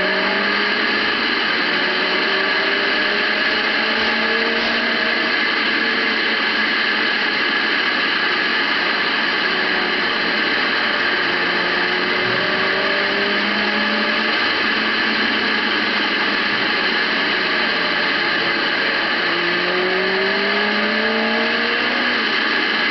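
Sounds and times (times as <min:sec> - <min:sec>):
motorcycle engine: 0:00.0 - 0:22.9.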